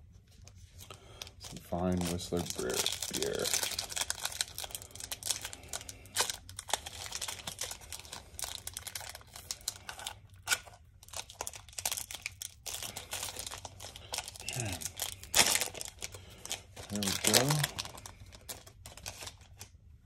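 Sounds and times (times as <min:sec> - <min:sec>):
wrapper crinkling and tearing: 0:00.5 - 0:19.8.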